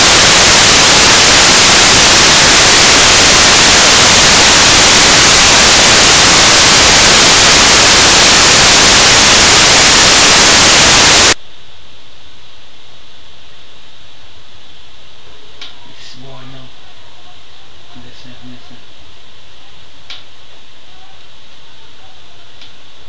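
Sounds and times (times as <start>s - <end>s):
static hiss: 0.0s - 23.0s.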